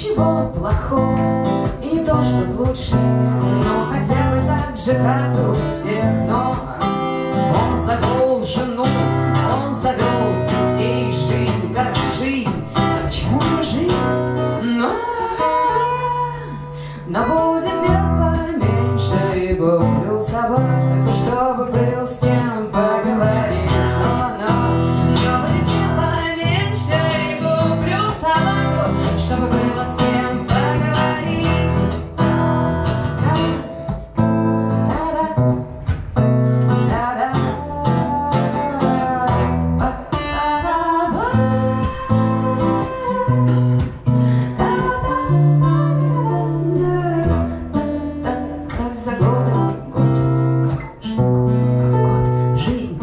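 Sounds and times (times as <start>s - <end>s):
acoustic guitar playing: 0.0s - 53.0s
woman singing: 0.0s - 53.0s.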